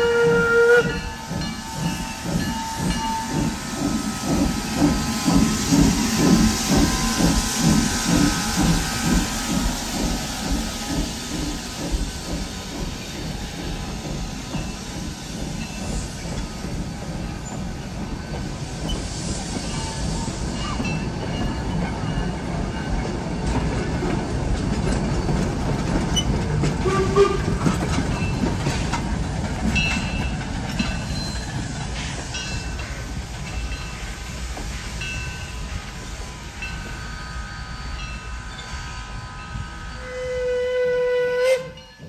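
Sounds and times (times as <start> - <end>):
steam train rumble: 0.0 - 42.0.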